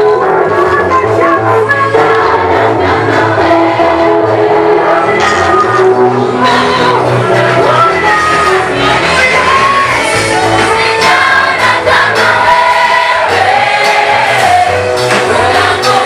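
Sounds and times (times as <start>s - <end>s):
choir singing with accompaniment: 0.0s - 16.0s.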